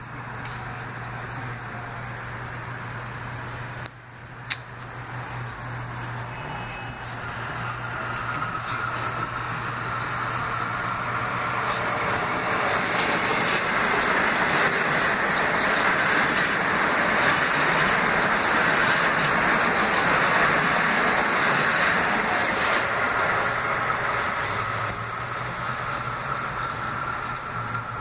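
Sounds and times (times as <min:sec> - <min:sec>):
rush of train wheels on rails: 0:00.0 - 0:28.0.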